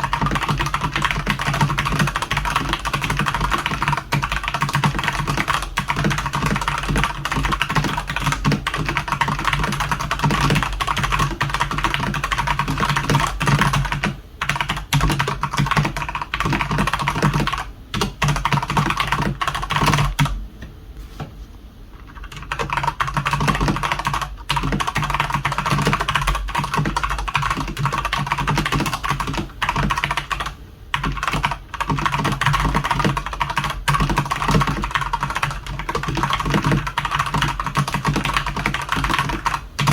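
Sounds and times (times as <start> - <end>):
mechanical keyboard typing: 0.0 - 20.3, 22.0 - 39.9.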